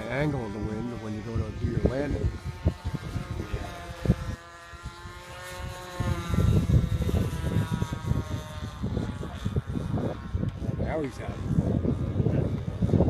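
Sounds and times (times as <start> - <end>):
model airplane motor whine: 0.0 - 13.0
wind buffeting microphone: 0.0 - 13.0.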